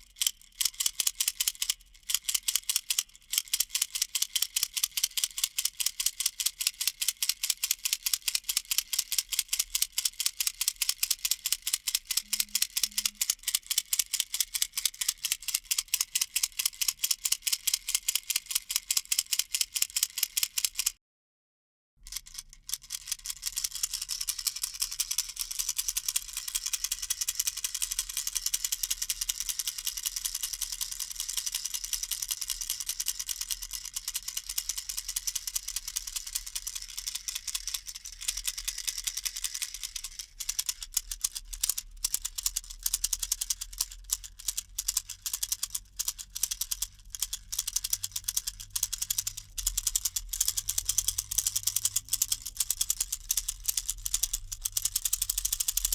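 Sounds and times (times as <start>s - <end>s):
baby rattle shaking: 0.0s - 20.9s, 22.0s - 55.9s.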